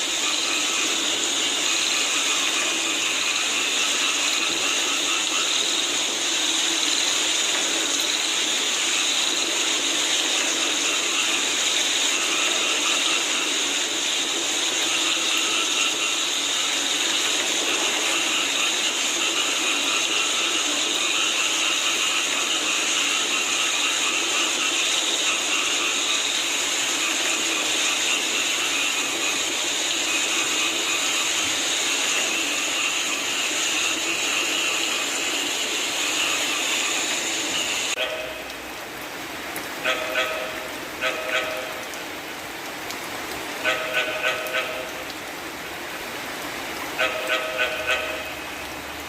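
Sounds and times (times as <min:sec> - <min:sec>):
chorus of frogs calling: 0:00.0 - 0:38.6, 0:39.8 - 0:42.0, 0:47.0 - 0:49.0
rainfall hiss: 0:00.0 - 0:49.0.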